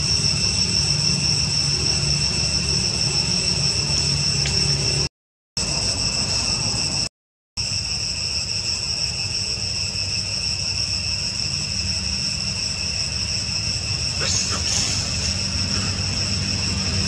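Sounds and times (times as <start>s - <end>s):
shrill insect chorus: 0.0s - 17.0s.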